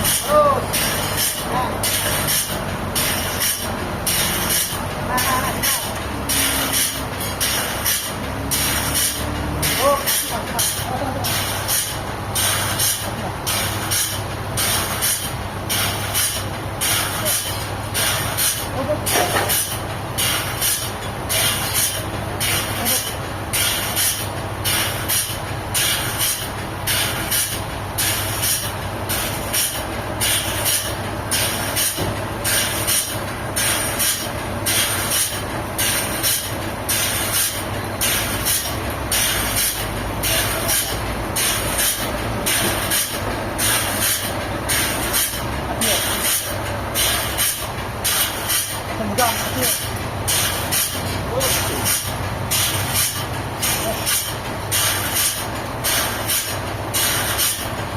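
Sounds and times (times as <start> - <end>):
machinery low hum: 0.0 - 57.9
rhythmic machine hiss: 0.0 - 57.9.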